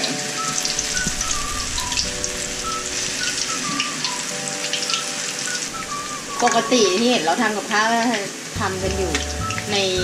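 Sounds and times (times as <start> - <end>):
oil sizzling and crackling: 0.0 - 10.0.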